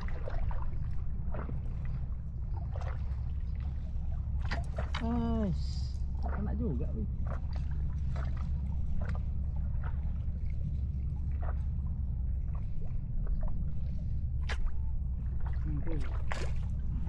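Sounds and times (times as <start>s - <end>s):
steady low rumble: 0.0s - 17.0s
water lapping and splashing: 0.0s - 17.0s.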